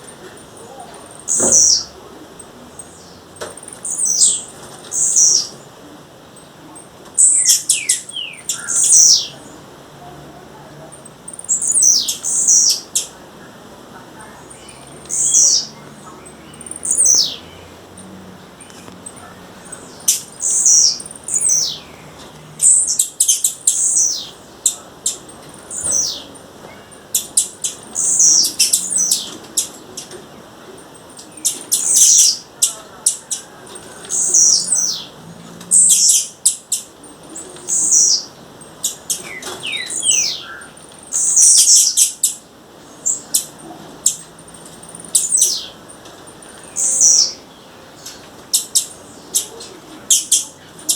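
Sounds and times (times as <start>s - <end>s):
bird chirping and clicking: 0.0s - 5.6s, 6.3s - 9.4s, 11.0s - 13.2s, 14.5s - 47.4s, 48.0s - 50.9s.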